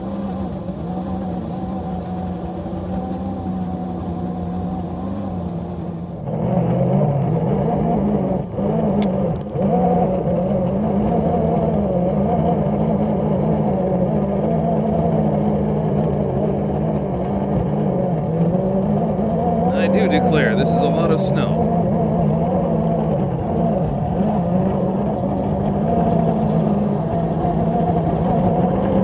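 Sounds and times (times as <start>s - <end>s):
locomotive engine running: 0.0s - 29.0s.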